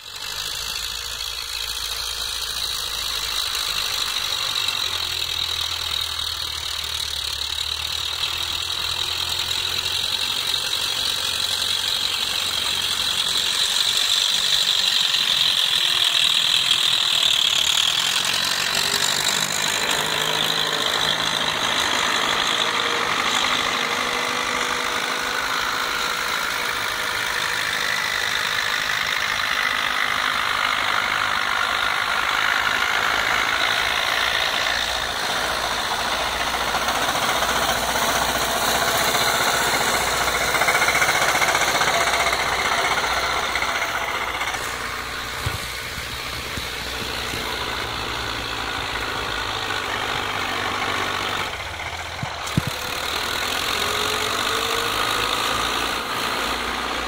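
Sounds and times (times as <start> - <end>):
tractor engines under load: 0.0 - 57.0
mechanical rattle: 0.1 - 56.9.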